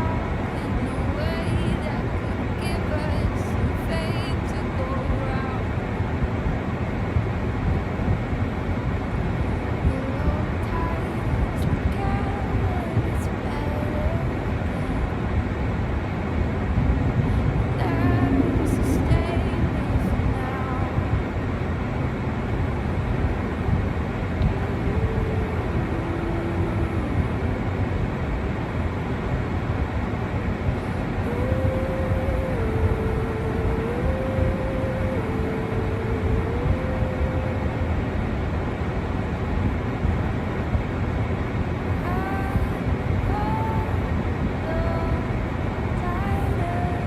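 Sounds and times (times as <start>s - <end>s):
low rumbling outdoor noise: 0.0s - 47.0s.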